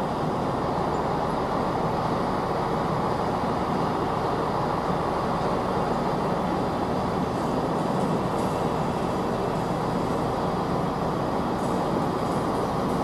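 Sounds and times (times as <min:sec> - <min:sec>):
echoing station background noise: 0:00.0 - 0:13.0
electric train rumbling: 0:00.0 - 0:13.0.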